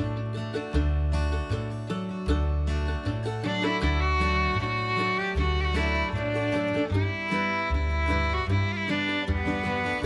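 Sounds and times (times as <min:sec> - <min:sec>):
bass line: 0:00.0 - 0:10.0
fiddle melody: 0:00.0 - 0:10.0
guitar: 0:00.0 - 0:10.0.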